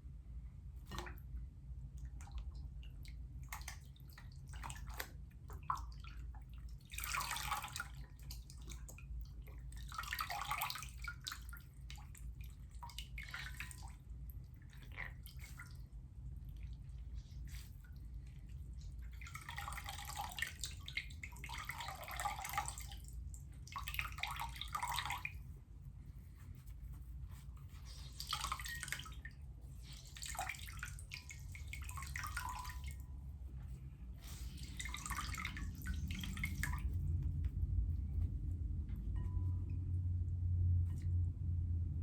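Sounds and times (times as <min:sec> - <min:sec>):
low steady hum: 0:00.0 - 0:42.0
water trickling and splashing: 0:02.0 - 0:37.8.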